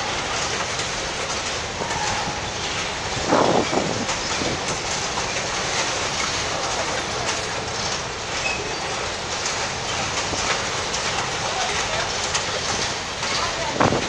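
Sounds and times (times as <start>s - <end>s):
freight train wheels clacking on rails: 0.0s - 14.0s.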